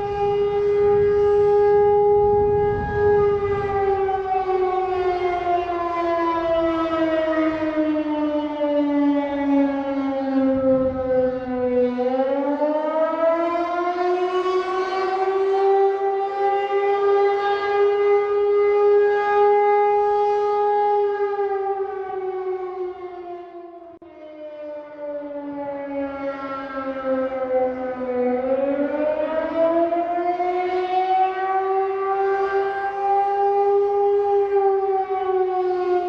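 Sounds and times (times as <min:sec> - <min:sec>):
emergency siren: 0:00.0 - 0:36.0.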